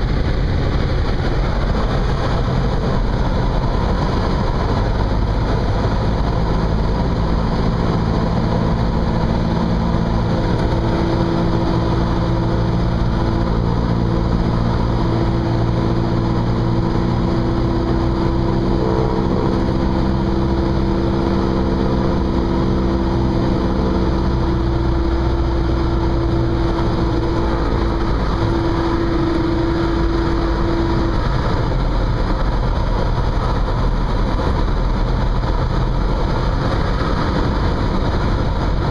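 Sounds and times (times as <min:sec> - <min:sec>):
humming tones: 0:00.0 - 0:38.9
propeller plane engine droning: 0:00.0 - 0:38.9.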